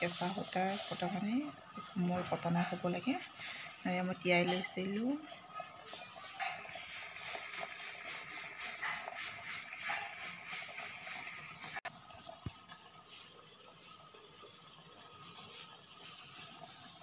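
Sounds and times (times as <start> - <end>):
water boiling: 0.0 - 17.0.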